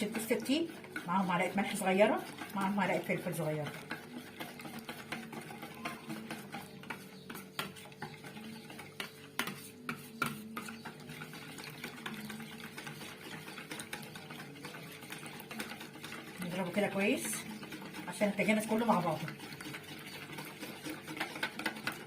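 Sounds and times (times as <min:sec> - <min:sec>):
whisk clicking against bowl: 0:00.0 - 0:22.0.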